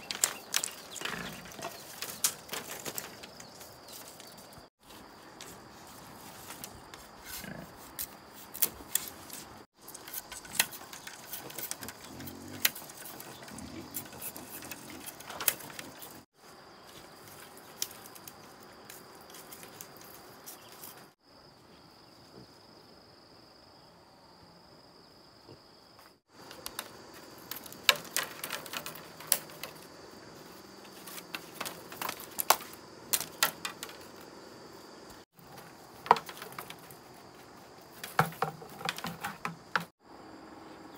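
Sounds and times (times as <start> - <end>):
bamboo strips clicking and knocking: 0.0 - 16.2, 17.0 - 21.1, 26.3 - 34.3, 35.1 - 39.9.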